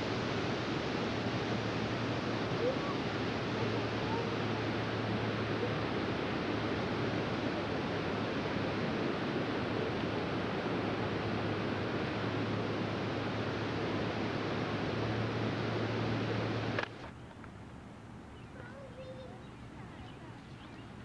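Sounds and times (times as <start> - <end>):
faint low hum: 0.0 - 21.0
rushing water: 0.0 - 21.0.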